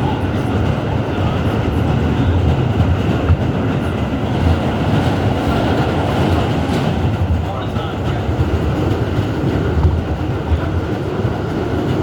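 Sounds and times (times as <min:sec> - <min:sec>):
subway wheels rumbling on rail: 0:00.0 - 0:12.0.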